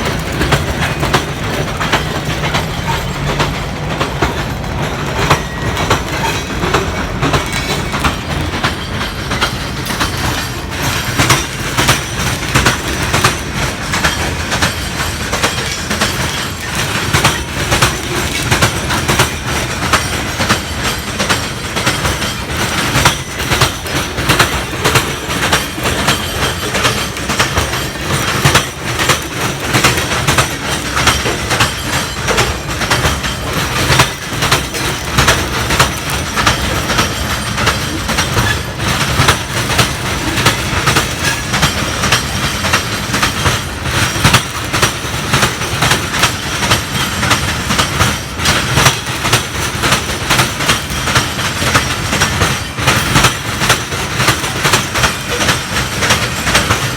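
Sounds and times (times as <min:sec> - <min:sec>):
low train rumble: 0:00.0 - 0:56.9
train wheels clacking: 0:00.0 - 0:56.9.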